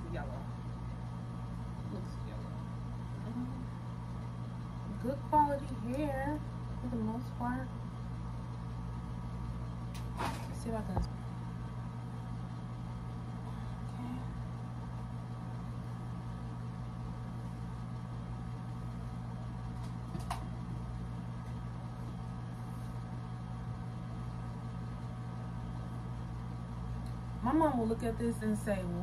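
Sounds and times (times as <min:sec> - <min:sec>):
ceiling fan motor hum: 0:00.0 - 0:29.0.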